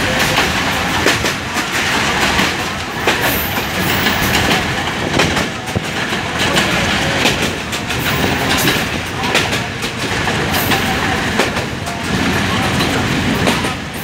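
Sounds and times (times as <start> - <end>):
train rumble: 0.0 - 14.0
wheels clicking over rail joints: 0.0 - 14.0.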